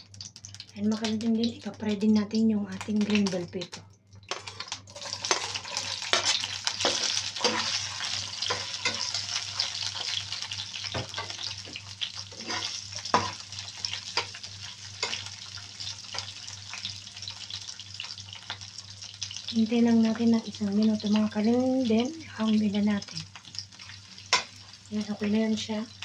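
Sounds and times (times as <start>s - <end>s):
peppers sizzling in hot oil: 0.0s - 26.0s.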